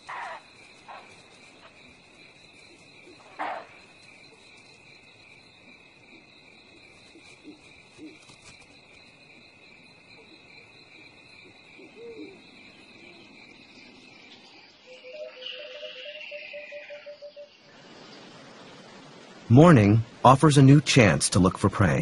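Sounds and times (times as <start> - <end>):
faint low animal calls: 0.0 - 18.3
crickets trilling: 0.0 - 22.0.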